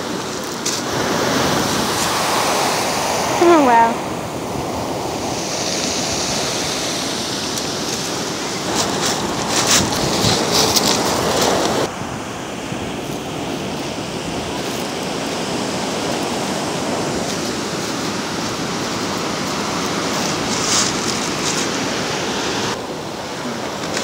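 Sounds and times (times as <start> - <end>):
ocean surf on cobble beach: 0.0 - 24.0.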